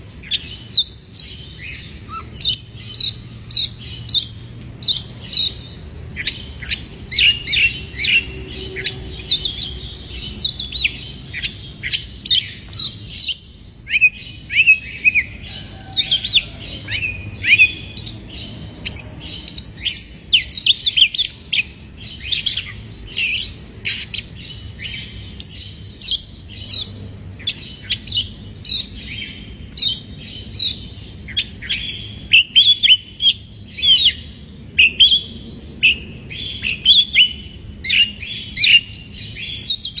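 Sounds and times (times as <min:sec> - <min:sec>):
songbird whistling song: 0:00.0 - 0:40.0.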